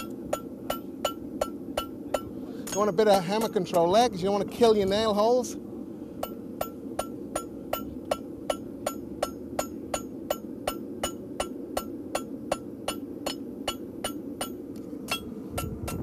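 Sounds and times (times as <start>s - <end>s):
hammer striking horseshoe on anvil: 0.0s - 3.9s, 6.2s - 16.0s
steady low hum: 0.0s - 16.0s.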